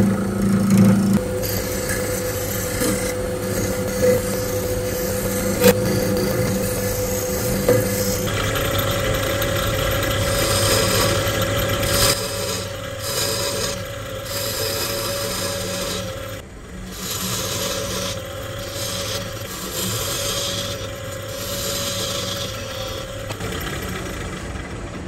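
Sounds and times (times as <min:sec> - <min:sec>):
lathe motor hum: 0:00.0 - 0:25.0
tool scraping spinning wood: 0:00.0 - 0:25.0.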